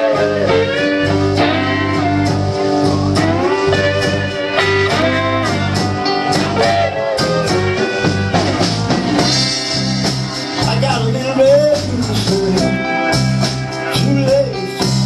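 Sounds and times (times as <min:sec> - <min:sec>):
blues band playing: 0:00.0 - 0:15.0
lead guitar bending notes: 0:00.0 - 0:15.0.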